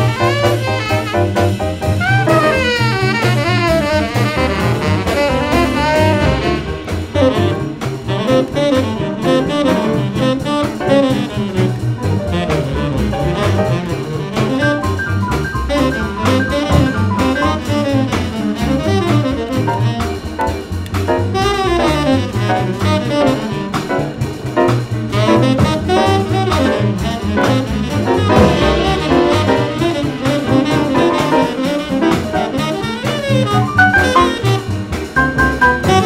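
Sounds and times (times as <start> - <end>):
double bass: 0.0 - 36.0
drum kit beat: 0.0 - 36.0
saxophone line: 0.0 - 36.0.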